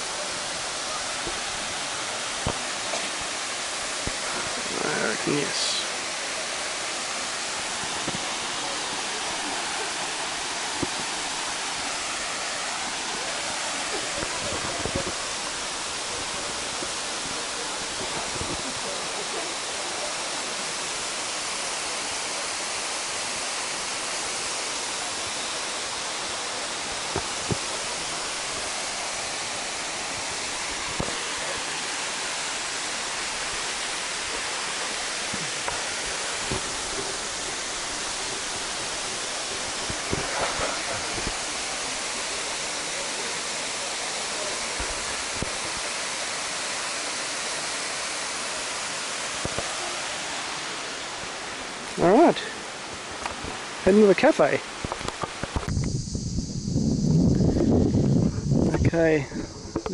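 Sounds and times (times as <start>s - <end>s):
waterfall rushing: 0.0s - 55.7s.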